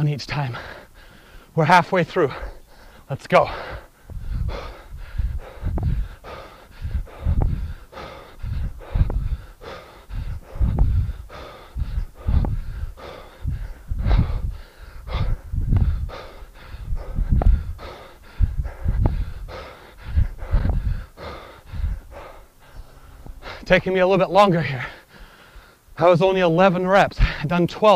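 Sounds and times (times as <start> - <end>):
man breathing hard: 0.4 - 1.6, 2.2 - 23.8, 24.5 - 25.9.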